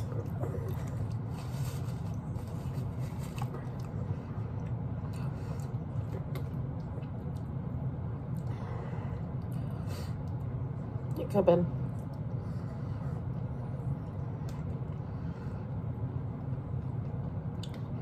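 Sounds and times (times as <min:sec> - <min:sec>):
chewing soft food: 0:00.0 - 0:11.1, 0:11.8 - 0:18.0
low hum: 0:00.0 - 0:18.0.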